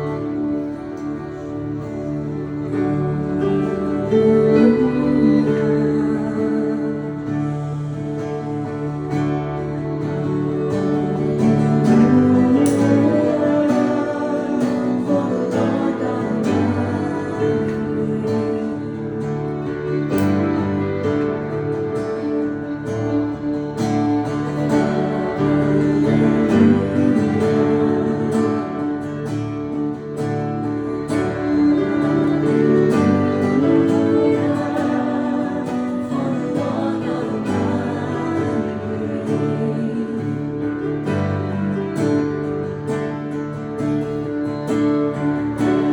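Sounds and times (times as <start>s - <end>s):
person singing: 0.0s - 43.3s, 44.1s - 45.9s
strummed acoustic guitar: 0.0s - 45.9s.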